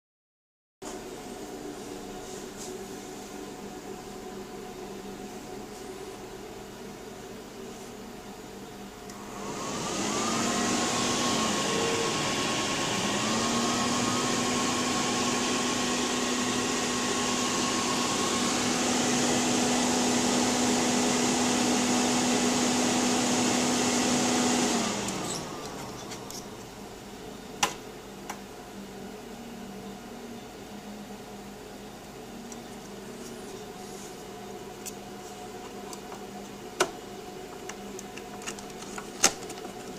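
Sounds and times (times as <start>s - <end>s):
computer cooling fans whirring: 0.9s - 39.9s.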